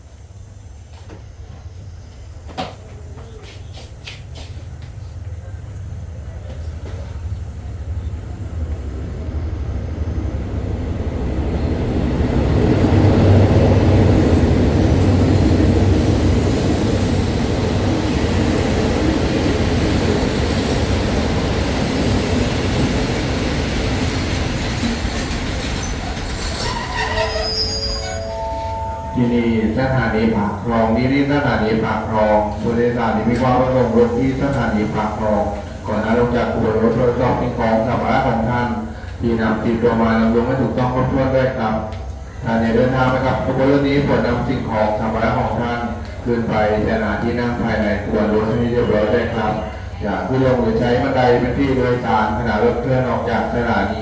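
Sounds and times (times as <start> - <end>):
diesel train engine rumble: 0.0 - 54.0
train wheels on rails: 0.0 - 54.0.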